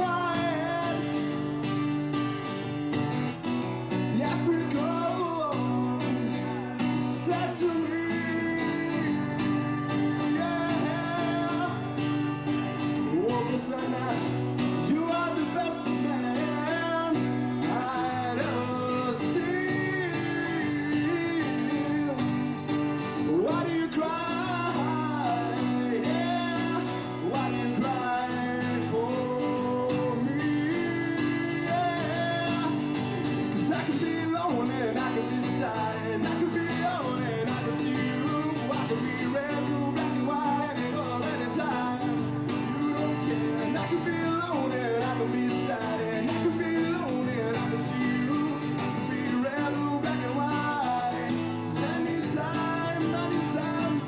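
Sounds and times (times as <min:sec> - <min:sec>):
man singing: 0:00.0 - 0:54.0
strummed acoustic guitar: 0:00.0 - 0:54.0.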